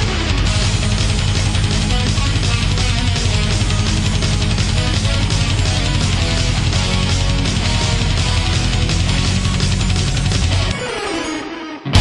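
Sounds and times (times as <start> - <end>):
heavy metal music: 0.0 - 12.0.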